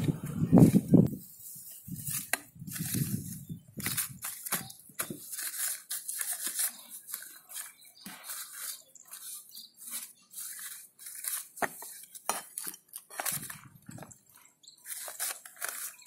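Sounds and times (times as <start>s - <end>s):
soil crunching and scraping: 0.0s - 16.0s
plastic bag crinkling: 1.1s - 16.0s.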